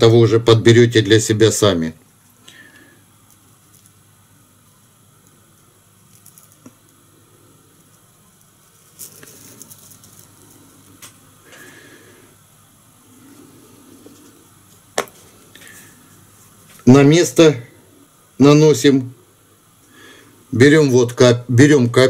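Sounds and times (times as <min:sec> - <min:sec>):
low hiss: 0:00.0 - 0:22.0.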